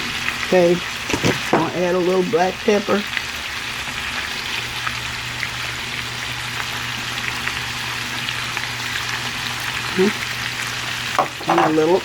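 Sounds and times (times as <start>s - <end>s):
potatoes sizzling in a skillet: 0.0s - 12.0s.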